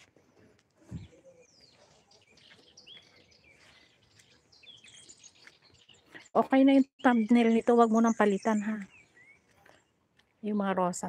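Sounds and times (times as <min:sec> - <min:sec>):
outdoor background noise: 0:00.0 - 0:11.0
faint bird chirps: 0:00.8 - 0:10.0.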